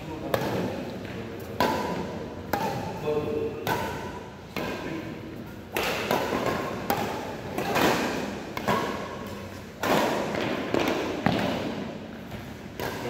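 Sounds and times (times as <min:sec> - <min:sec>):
rackets hitting shuttlecock: 0:00.2 - 0:13.0.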